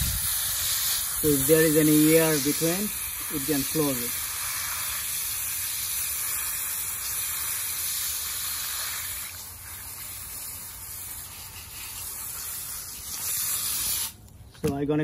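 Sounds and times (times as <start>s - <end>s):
water spray hissing onto soil: 0.0s - 14.2s.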